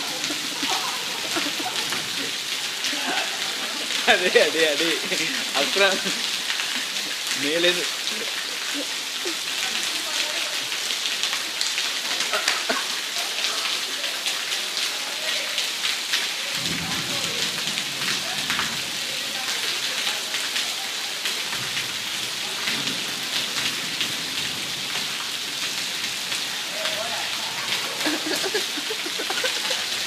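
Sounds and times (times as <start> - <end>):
heavy rain on pavement: 0.0 - 30.0.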